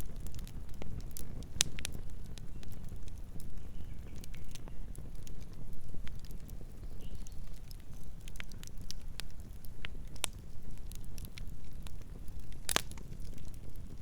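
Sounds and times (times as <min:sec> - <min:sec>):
campfire rumbling: 0:00.0 - 0:14.0
wood crackling and popping: 0:00.0 - 0:14.0.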